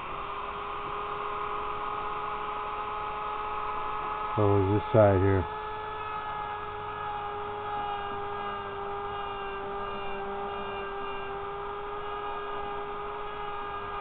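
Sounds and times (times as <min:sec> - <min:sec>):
rotary tool whining: 0:00.0 - 0:14.0
grinding bit grinding metal: 0:02.4 - 0:14.0.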